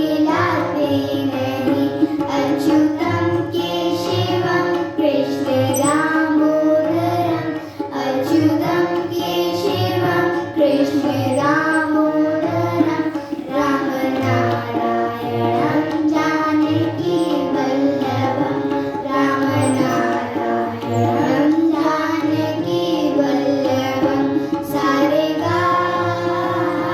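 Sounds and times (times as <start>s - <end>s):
children singing devotional song: 0.0s - 26.9s
tabla drumming: 0.0s - 26.9s.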